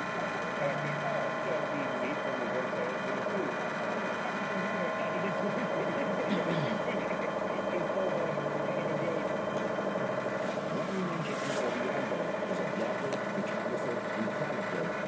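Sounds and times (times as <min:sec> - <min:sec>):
faint indistinct voices: 0:00.0 - 0:15.0
steady mechanical hum: 0:00.0 - 0:15.0.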